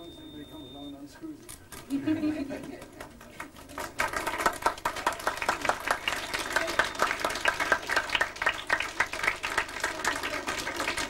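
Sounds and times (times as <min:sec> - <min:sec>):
small group clapping: 0:01.8 - 0:11.0.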